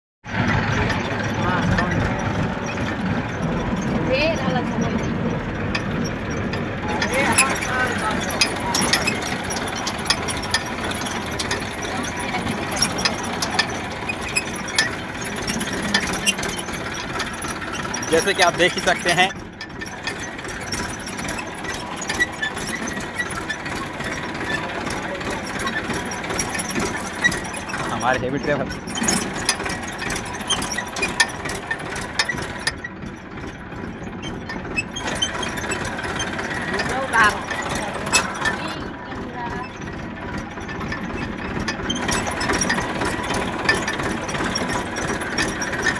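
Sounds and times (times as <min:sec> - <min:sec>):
tractor engine running: 0:00.2 - 0:45.9
metallic clicks and clatter: 0:00.3 - 0:45.9.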